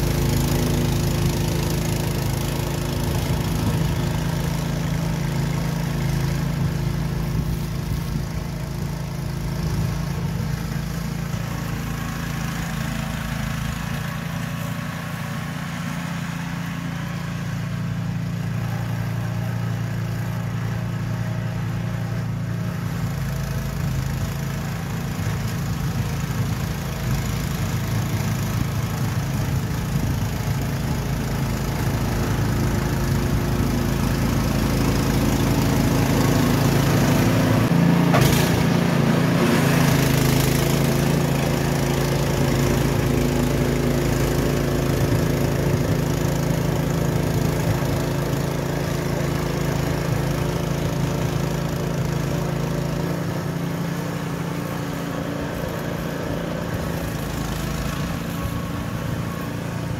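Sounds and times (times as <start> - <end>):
snowblower running: 0.0 - 59.9.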